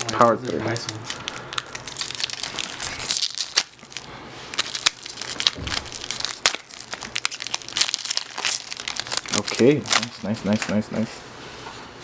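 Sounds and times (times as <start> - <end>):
plastic wrapper crinkling and tearing: 0.0 - 11.1.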